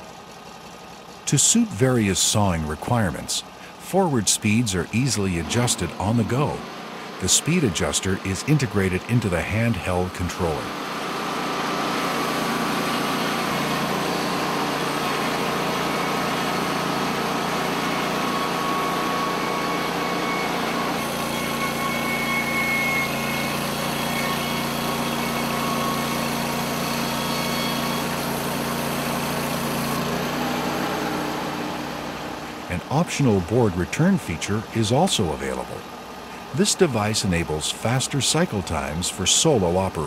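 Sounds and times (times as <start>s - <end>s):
sawmill engine and band saw drone: 0.0s - 40.0s.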